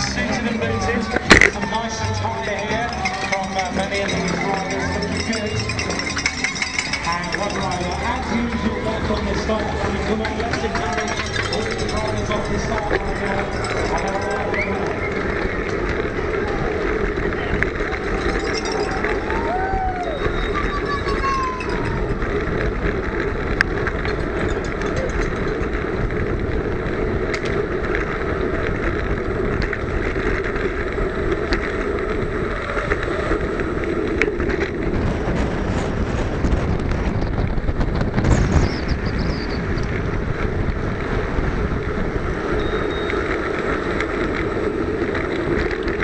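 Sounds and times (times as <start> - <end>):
bicycle clicking and rattling: 0.0 - 46.0
bicycle tyre and wind noise: 0.0 - 46.0.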